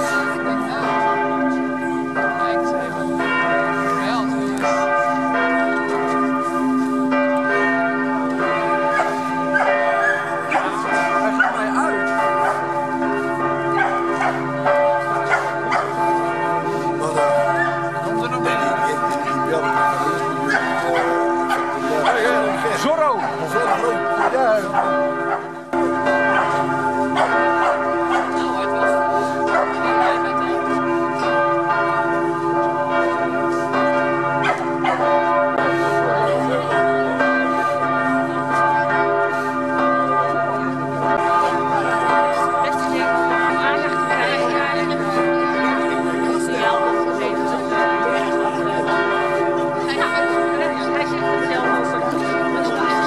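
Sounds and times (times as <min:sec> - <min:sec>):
church bells pealing: 0:00.0 - 0:53.0.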